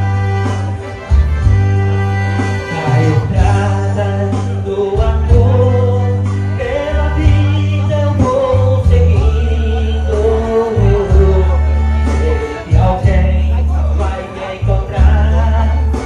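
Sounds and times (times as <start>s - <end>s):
heavy bass: 0.0s - 16.0s
lead melody line: 0.0s - 16.0s.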